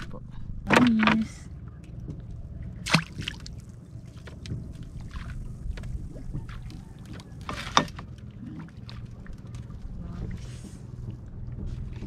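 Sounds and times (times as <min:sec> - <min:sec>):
water lapping: 0:01.9 - 0:12.0.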